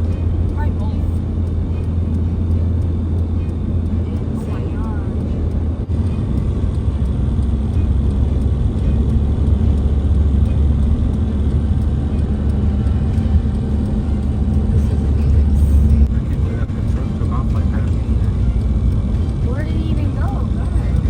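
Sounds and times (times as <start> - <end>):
vehicle road and engine rumble: 0.0 - 21.0.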